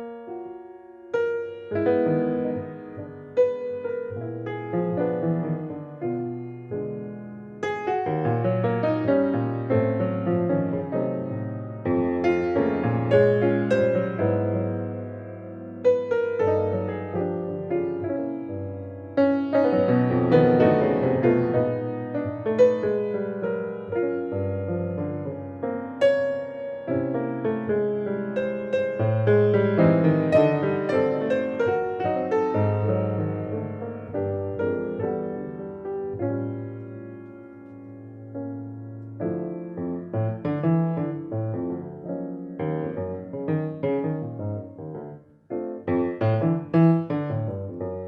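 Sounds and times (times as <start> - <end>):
grand piano playing jazz ballad: 0.0 - 48.0.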